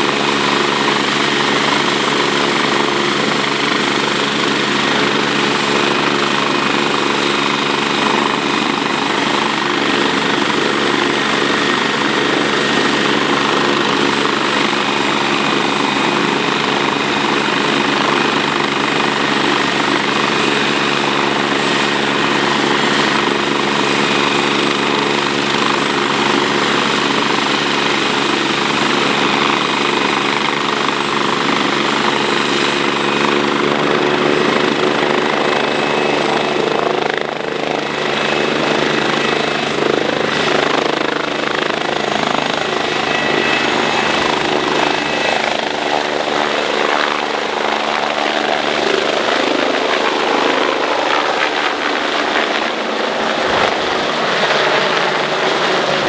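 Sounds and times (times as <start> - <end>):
helicopter rotor and engines: 0.0 - 56.0
high turbine whine: 0.0 - 56.0.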